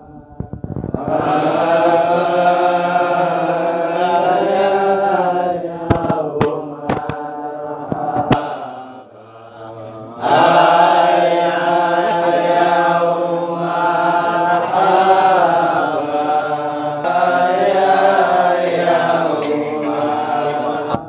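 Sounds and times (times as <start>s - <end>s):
men chanting in unison: 1.0s - 21.0s.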